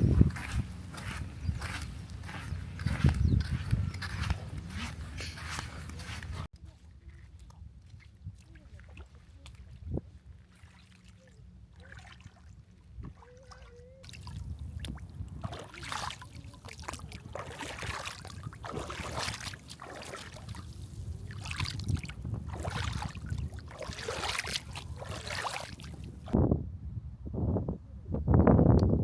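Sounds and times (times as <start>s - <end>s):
water sloshing and splashing: 0.0s - 26.4s.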